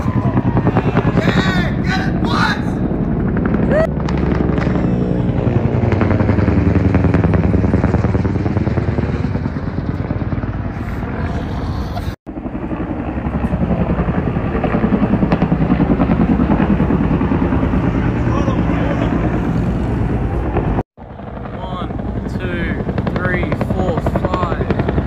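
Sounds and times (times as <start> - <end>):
helicopter rotor beating: 0.0 - 25.0.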